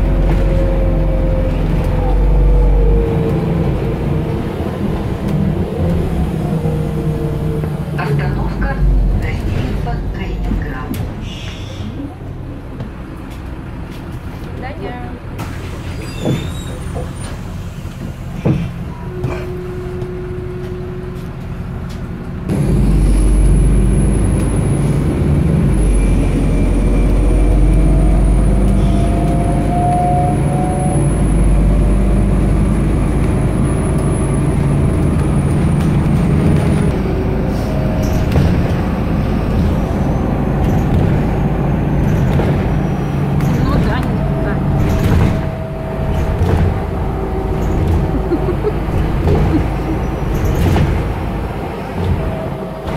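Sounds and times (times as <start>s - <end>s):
bus engine and road noise: 0.0s - 52.9s.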